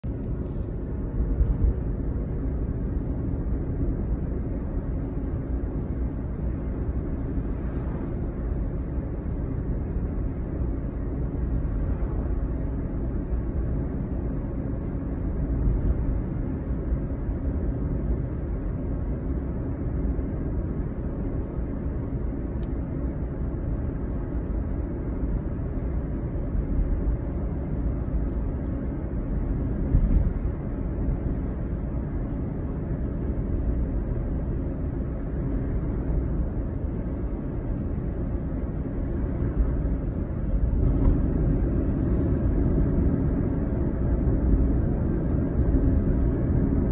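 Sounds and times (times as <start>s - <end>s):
vehicle engine and tyre rumble: 0.0s - 46.9s.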